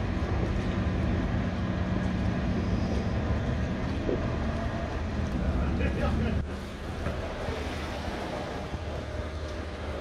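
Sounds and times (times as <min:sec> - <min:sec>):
ship engines humming: 0:00.0 - 0:10.0.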